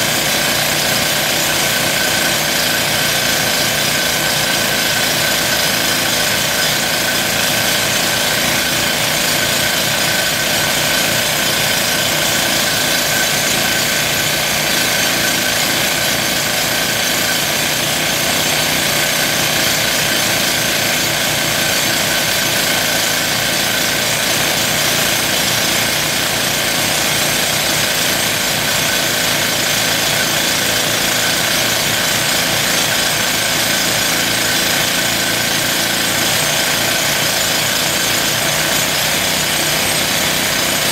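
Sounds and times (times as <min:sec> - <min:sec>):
rock drill hammering: 0:00.0 - 0:40.9.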